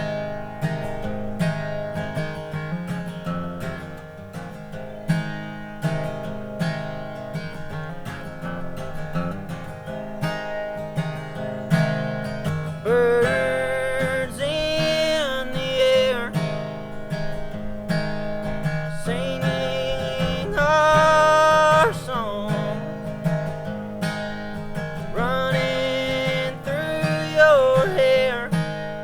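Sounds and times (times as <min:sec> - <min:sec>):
acoustic guitar strumming: 0:00.0 - 0:29.0
held melody line: 0:00.0 - 0:29.0.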